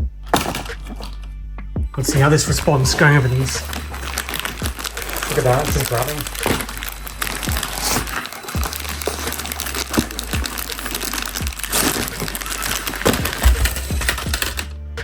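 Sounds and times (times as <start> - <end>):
toy truck crunching over cookies: 2.1 - 14.8.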